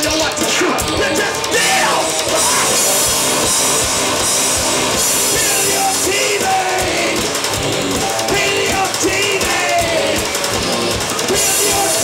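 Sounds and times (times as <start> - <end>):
bass guitar: 0.0 - 12.0
electric guitar: 0.0 - 12.0
electronic drum kit: 0.0 - 12.0.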